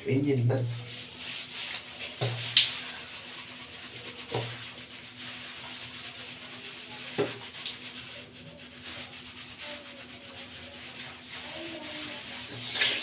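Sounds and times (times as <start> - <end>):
hands scrubbing lathered hair: 0.0 - 13.0.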